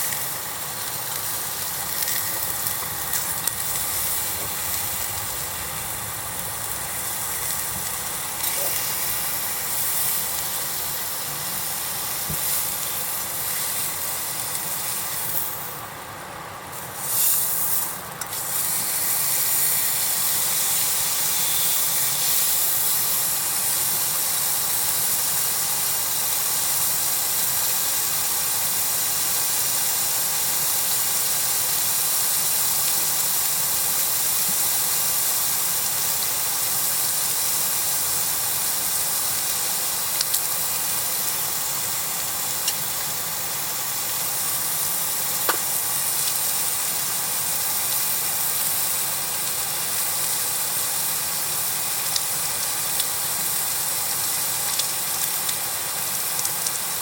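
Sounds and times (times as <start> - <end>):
food sizzling on griddle: 0.0 - 57.0.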